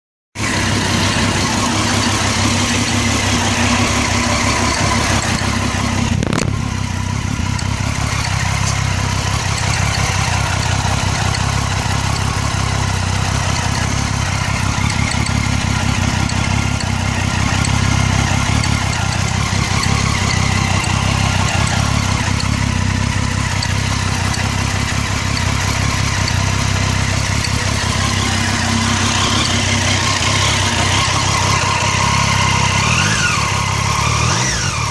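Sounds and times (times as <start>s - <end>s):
motorcycle engine idling: 0.4s - 34.9s.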